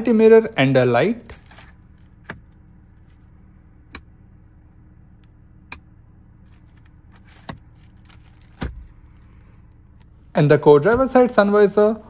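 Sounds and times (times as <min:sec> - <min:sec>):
low steady cabin hum: 0:00.0 - 0:12.0.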